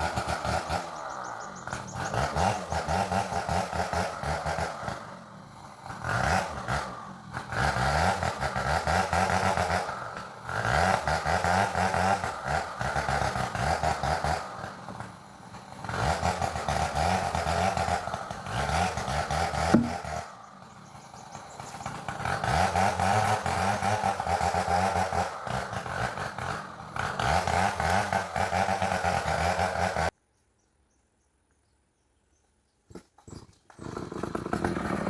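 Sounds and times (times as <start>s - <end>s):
chainsaw revving and cutting: 0.0s - 30.2s, 33.3s - 35.0s.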